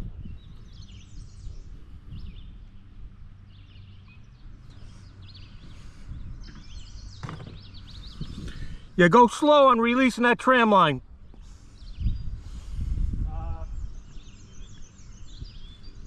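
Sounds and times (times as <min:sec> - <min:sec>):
steady low rumble: 0:00.0 - 0:09.2, 0:09.8 - 0:16.0
birds chirping: 0:00.0 - 0:16.0.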